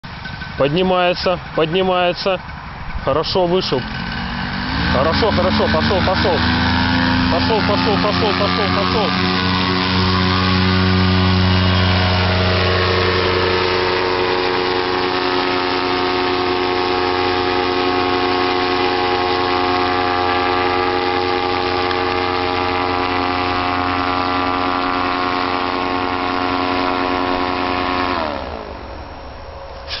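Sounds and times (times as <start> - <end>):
paramotor engine and propeller: 0.0 - 30.0.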